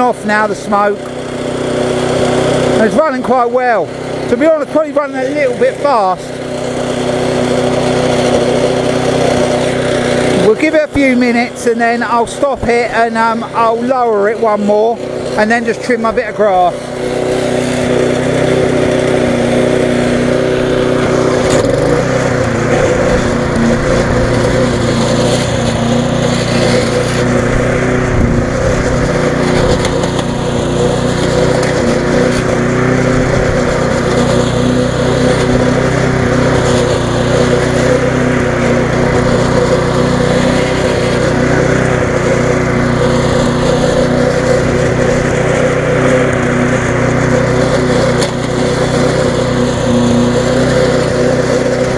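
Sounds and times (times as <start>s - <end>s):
lawn mower engine running: 0.0s - 51.9s.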